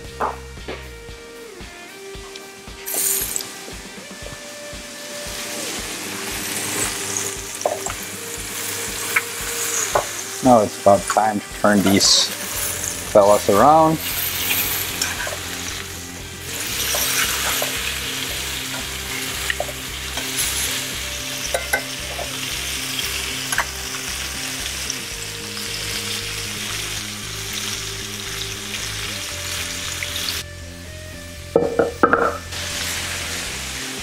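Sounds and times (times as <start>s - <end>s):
chicken sizzling in hot oil: 2.3s - 30.5s, 31.6s - 34.0s.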